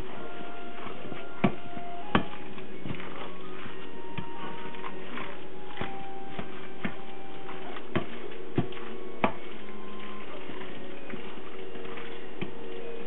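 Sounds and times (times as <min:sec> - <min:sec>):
steady held tones: 0:00.0 - 0:13.0.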